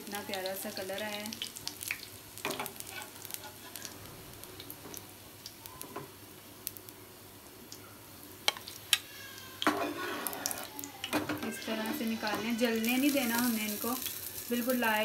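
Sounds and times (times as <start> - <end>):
food sizzling in oil: 0.0 - 7.5, 8.2 - 15.0.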